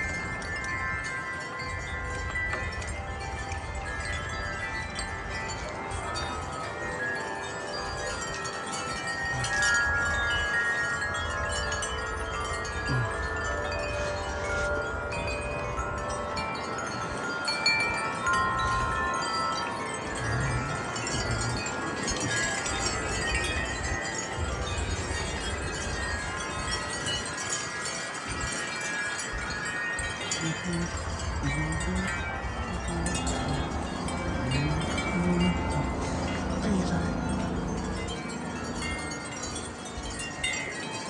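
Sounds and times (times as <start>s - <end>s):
wind chimes ringing: 0.0s - 41.0s
wind rumble on microphone: 0.0s - 41.0s.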